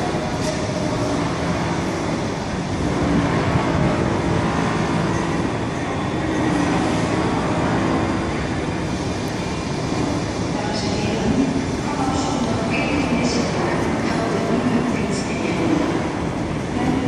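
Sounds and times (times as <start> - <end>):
station hall rumble: 0.0 - 17.0
tram arriving: 0.0 - 17.0.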